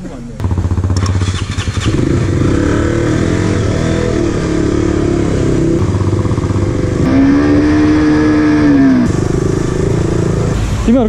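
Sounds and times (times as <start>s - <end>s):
motorcycle engine revving: 0.4s - 10.9s.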